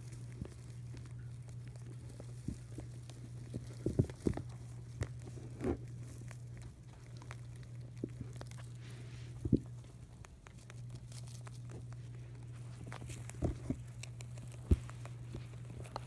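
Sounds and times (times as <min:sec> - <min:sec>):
rabbits munching hay: 0:00.0 - 0:16.0.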